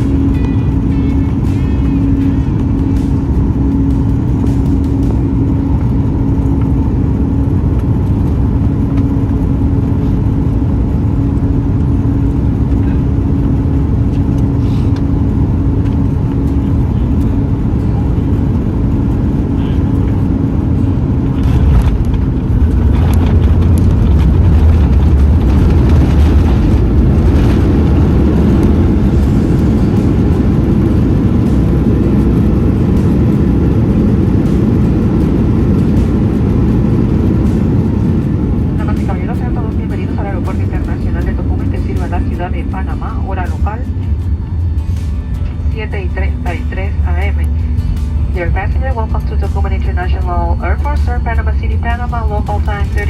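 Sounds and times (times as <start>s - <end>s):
jet engine cabin rumble: 0.0s - 53.0s
steady hum: 0.0s - 53.0s.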